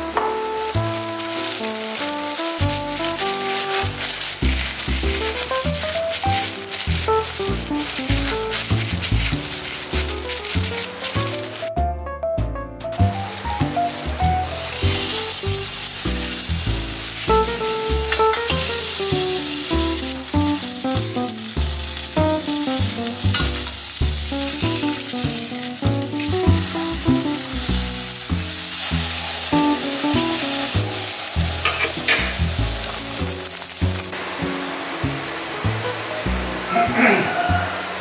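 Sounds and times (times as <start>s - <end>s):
burger patty sizzling in a pan: 0.0s - 11.7s, 12.9s - 36.7s
background music: 0.0s - 38.0s.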